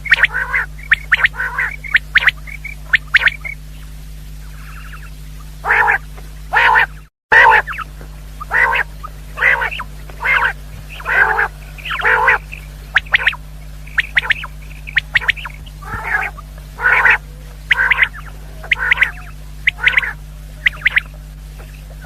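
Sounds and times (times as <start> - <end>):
low electrical hum: 0.0 - 22.0
quail croaking calls: 0.0 - 22.0.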